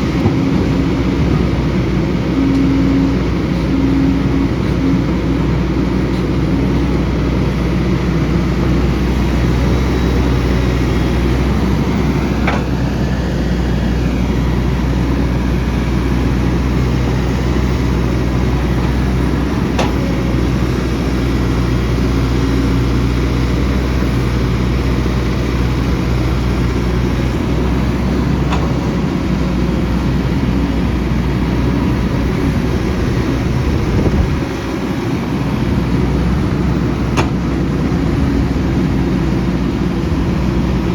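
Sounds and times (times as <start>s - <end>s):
excavator diesel engine under load: 0.0s - 40.9s.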